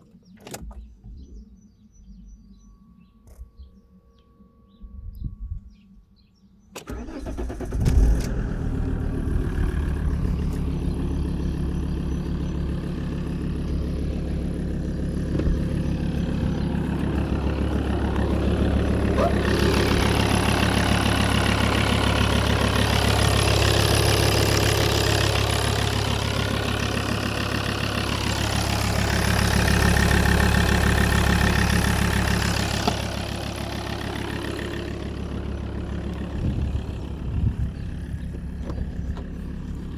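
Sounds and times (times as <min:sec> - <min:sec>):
engine running: 0:06.8 - 0:39.9.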